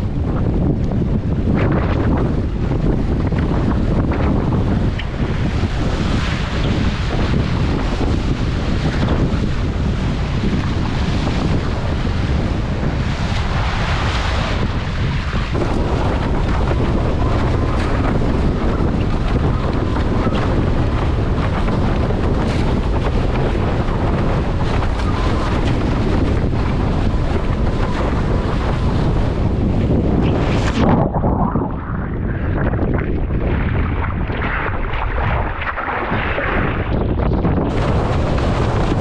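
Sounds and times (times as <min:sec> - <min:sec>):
hull slapping water: 0:00.0 - 0:39.0
water rushing under board: 0:00.0 - 0:39.0
wind buffeting microphone: 0:00.0 - 0:39.0.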